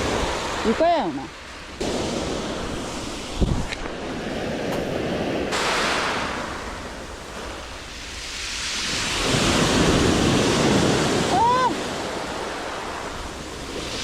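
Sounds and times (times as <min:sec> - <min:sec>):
surf waves crashing: 0:00.0 - 0:14.0
wind buffeting microphone: 0:00.0 - 0:14.0.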